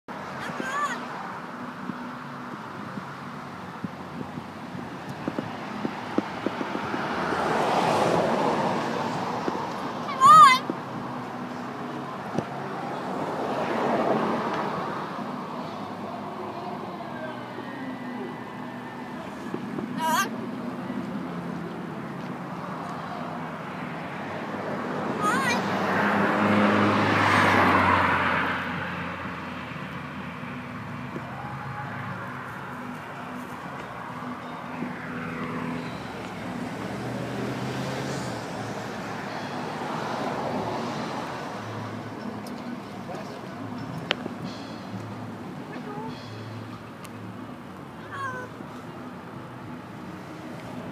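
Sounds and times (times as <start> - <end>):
vehicle passing by: 0.2 - 50.9.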